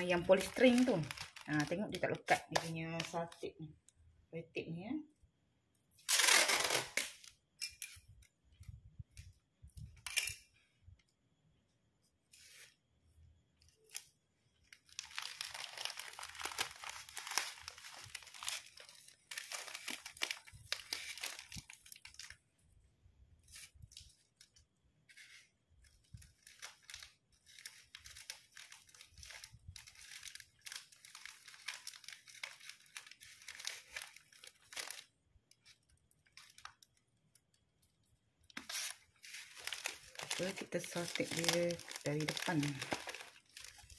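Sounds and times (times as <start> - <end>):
wrapping material crinkling: 0.0 - 3.9, 6.0 - 10.3, 11.9 - 43.9.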